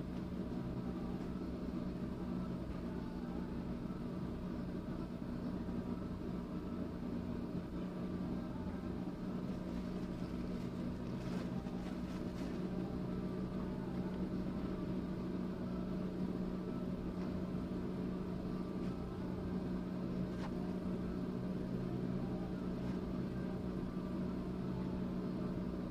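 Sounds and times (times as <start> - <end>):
low machine hum: 0.0 - 25.9.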